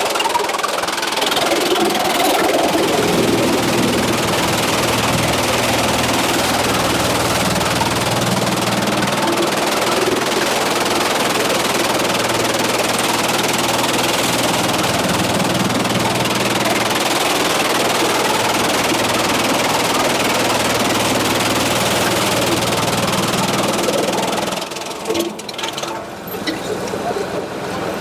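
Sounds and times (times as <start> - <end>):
machine motor humming: 0.0 - 27.4.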